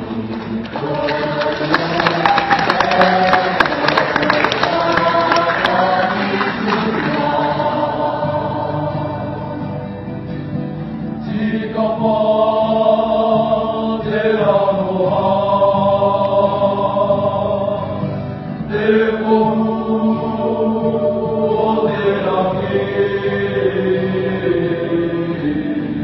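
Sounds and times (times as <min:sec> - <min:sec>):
group chanting song: 0:00.0 - 0:10.0, 0:11.0 - 0:26.0.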